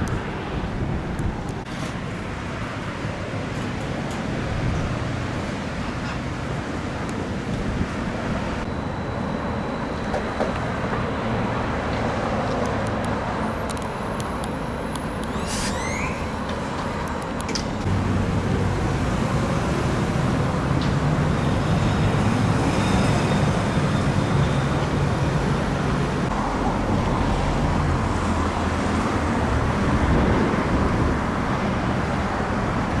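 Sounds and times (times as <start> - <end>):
vehicles on a wet road: 0.0 - 8.7, 10.5 - 33.0
heavy wind: 0.0 - 33.0.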